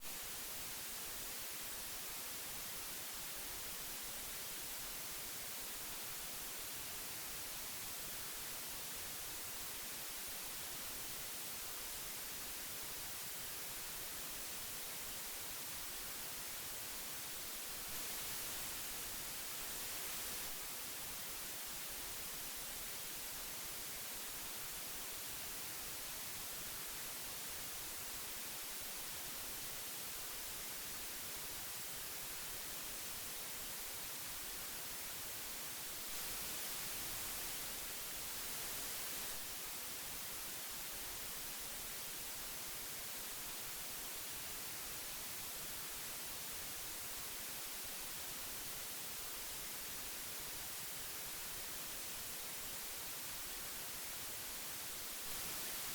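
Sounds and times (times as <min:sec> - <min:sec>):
tape hiss: 0:00.0 - 0:55.9.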